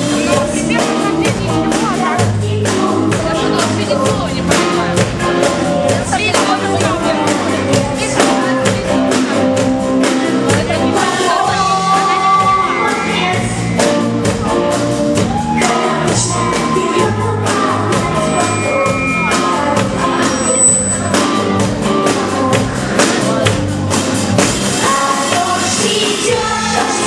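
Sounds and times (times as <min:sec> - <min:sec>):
person singing: 0:00.0 - 0:23.7, 0:24.8 - 0:27.0
drumbeat: 0:00.0 - 0:27.0
electric guitar: 0:00.0 - 0:27.0.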